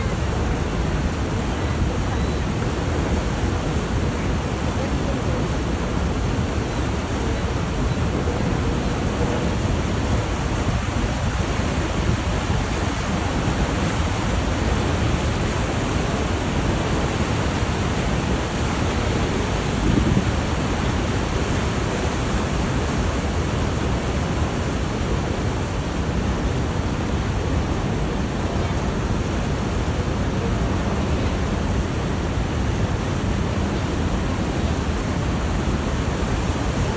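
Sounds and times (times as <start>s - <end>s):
rushing white water: 0.0s - 36.9s.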